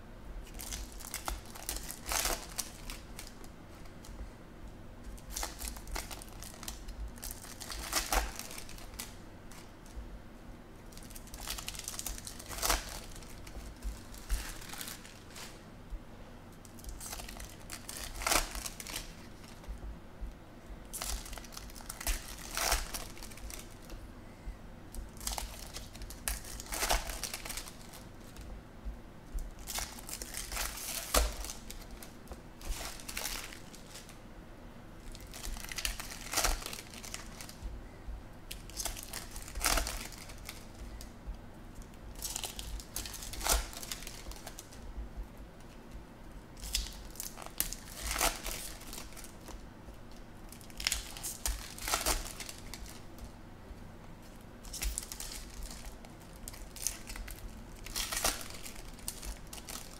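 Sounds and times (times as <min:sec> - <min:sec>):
foil wrappers crinkling and tearing: 0:00.4 - 0:04.2, 0:05.2 - 0:10.0, 0:10.8 - 0:15.6, 0:16.6 - 0:19.8, 0:20.9 - 0:24.0, 0:24.9 - 0:28.5, 0:29.3 - 0:34.2, 0:35.0 - 0:37.7, 0:38.5 - 0:41.1, 0:41.8 - 0:44.8, 0:46.6 - 0:53.3, 0:54.6 - 0:59.9.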